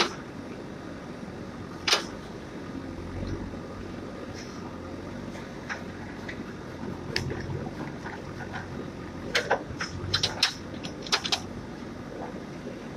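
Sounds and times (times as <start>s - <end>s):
digger diesel engine running: 0.0s - 12.9s.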